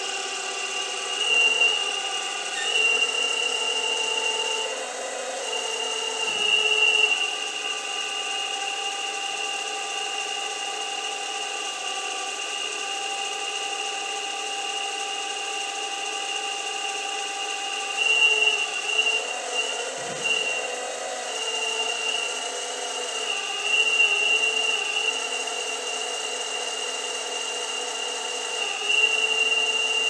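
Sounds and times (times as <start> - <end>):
hydraulic pump whining: 0.0 - 30.0.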